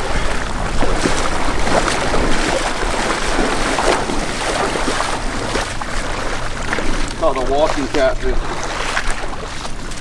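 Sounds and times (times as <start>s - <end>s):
splashing in shallow water: 0.0s - 10.0s
steady noisy background: 0.0s - 10.0s.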